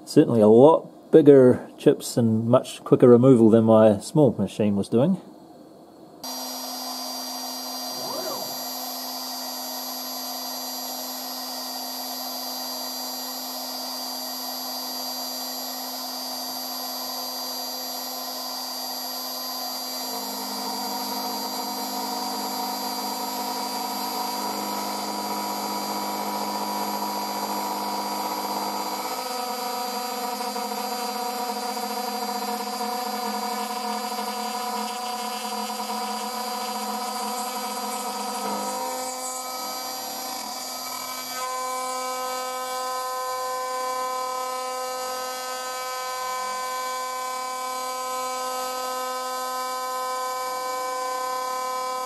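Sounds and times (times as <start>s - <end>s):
end mill cutting aluminium: 6.2s - 52.0s
router spindle whine: 6.2s - 52.0s.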